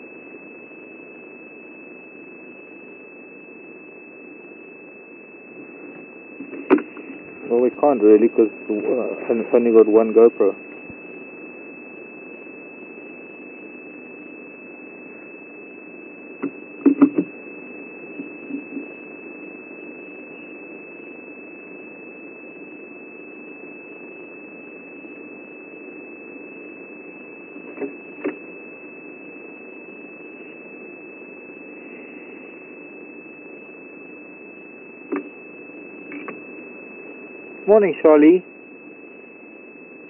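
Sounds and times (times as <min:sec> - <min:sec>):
thin high whine: 0:00.0 - 0:40.0.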